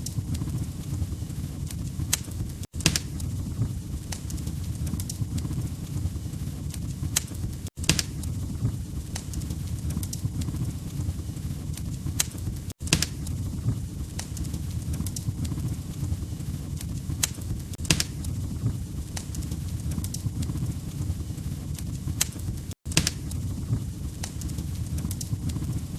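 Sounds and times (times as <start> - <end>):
log fire crackling: 0.0 - 25.9.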